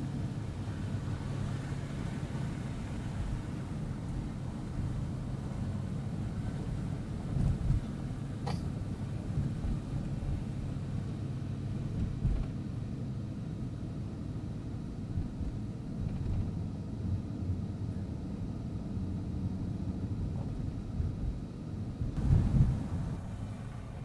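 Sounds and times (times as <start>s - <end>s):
vehicle cabin engine rumble: 0.0s - 24.0s.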